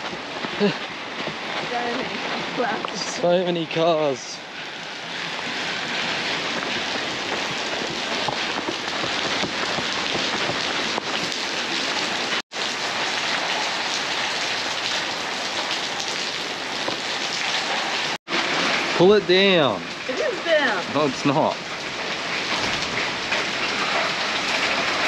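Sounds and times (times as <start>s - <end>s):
rain pattering on pavement: 0.0s - 25.0s.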